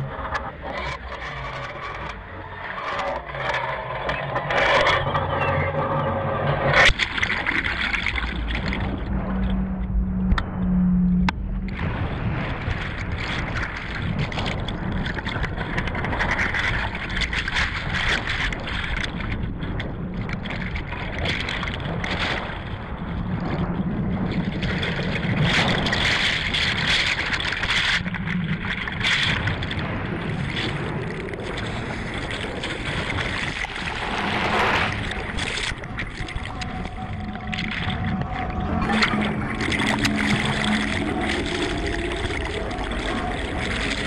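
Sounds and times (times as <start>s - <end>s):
boat engine low hum: 0.0s - 44.0s
water churning in boat wake: 0.0s - 44.0s.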